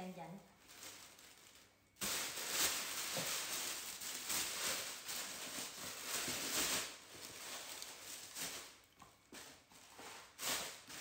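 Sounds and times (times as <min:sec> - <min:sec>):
tissue paper crinkling: 0:00.5 - 0:11.0.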